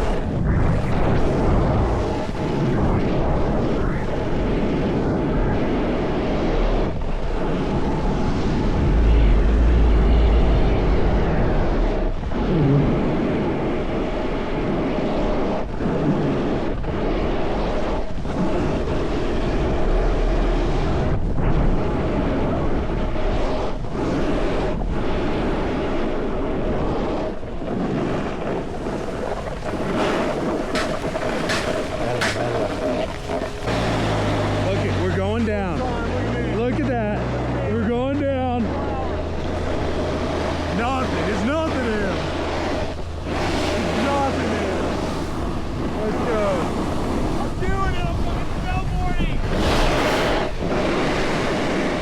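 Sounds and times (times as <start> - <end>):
snowboard sliding over snow: 0.0 - 52.0
wind buffeting microphone: 0.0 - 52.0.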